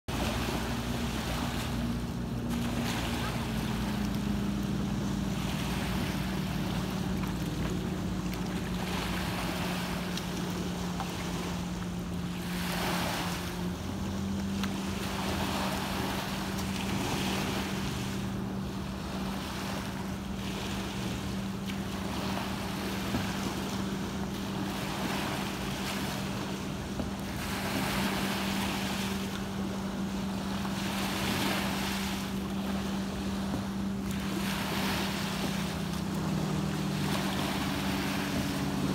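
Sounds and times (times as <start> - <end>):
steady low hum: 0.1 - 38.9
waves breaking on sandy shore: 0.1 - 38.9.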